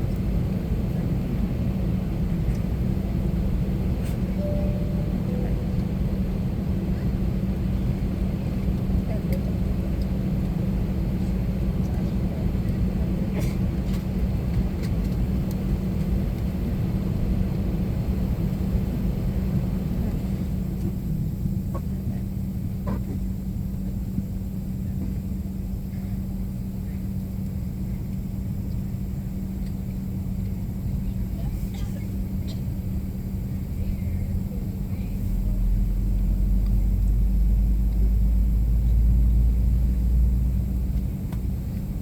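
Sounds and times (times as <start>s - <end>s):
aircraft cabin rumble: 0.0s - 42.0s
constant low hum: 0.0s - 42.0s.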